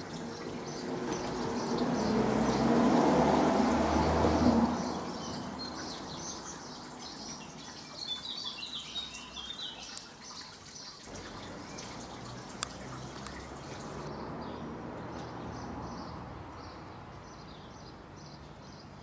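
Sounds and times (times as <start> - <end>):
small birds chirping: 0.0 - 3.1, 4.2 - 19.0.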